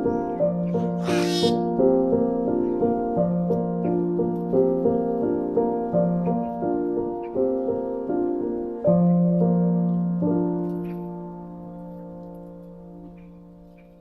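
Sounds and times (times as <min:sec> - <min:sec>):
gentle solo piano: 0:00.0 - 0:14.0.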